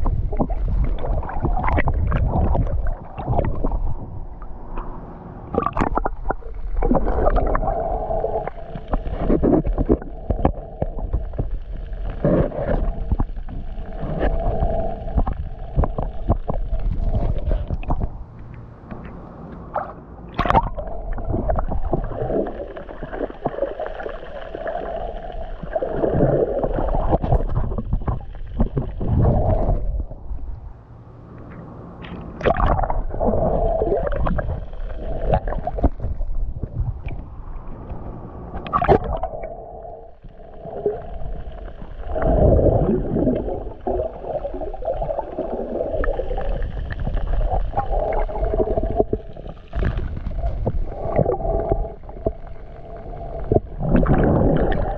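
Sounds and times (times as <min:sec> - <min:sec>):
muffled underwater water gurgling: 0:00.0 - 0:18.7, 0:20.3 - 0:31.4, 0:32.0 - 0:54.9.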